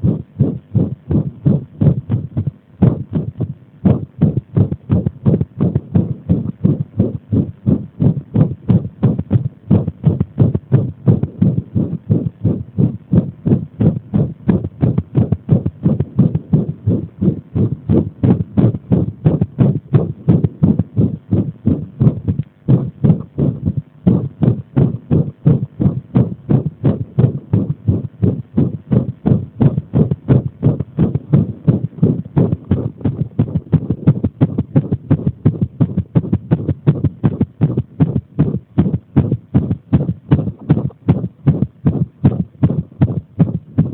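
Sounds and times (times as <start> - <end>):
heartbeat thumps: 0.0 - 43.9.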